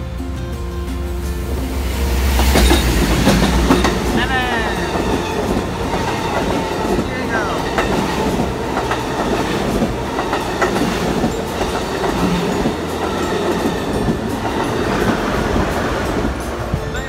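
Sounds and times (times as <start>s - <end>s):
train wheels on rail: 0.0s - 17.0s
wheels clacking over rail joints: 0.0s - 17.0s.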